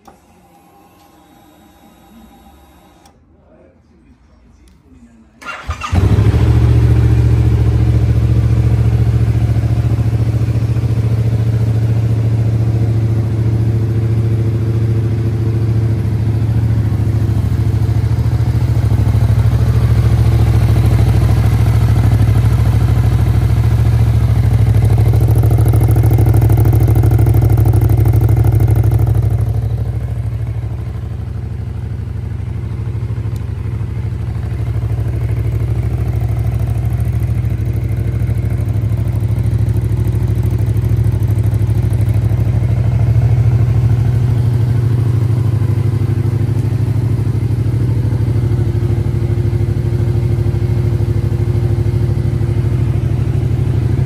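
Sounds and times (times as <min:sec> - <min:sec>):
motorcycle engine idling: 0:05.6 - 0:54.0.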